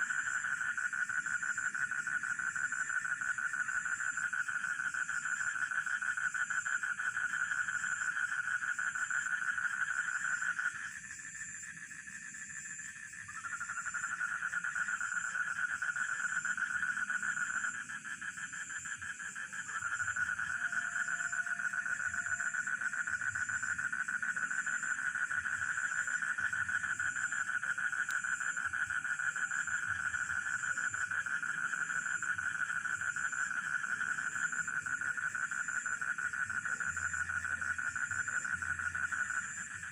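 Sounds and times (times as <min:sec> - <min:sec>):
frogs and crickets trilling: 0:00.0 - 0:39.9.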